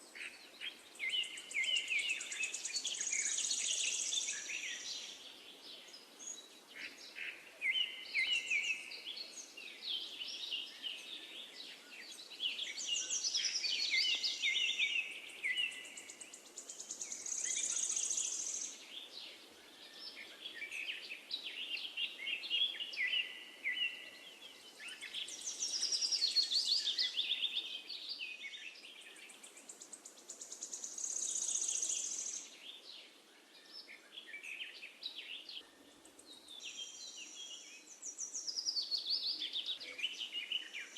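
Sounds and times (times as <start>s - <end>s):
birds singing: 0.0s - 40.9s.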